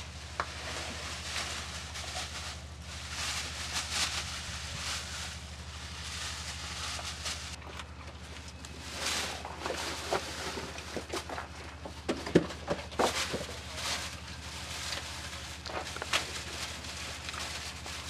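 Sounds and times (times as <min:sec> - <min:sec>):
plastic bag and cardboard rustling: 0:00.0 - 0:18.0
steady low hum: 0:00.0 - 0:18.0.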